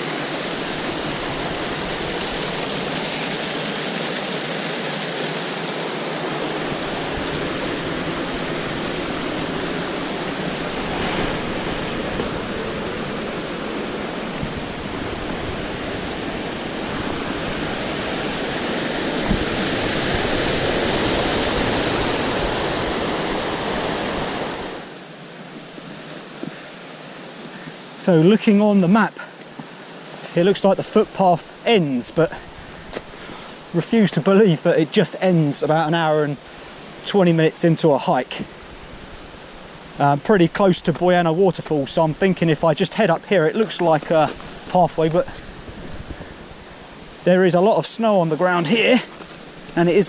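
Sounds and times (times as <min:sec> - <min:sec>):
river water rushing over rocks: 0:00.0 - 0:50.0.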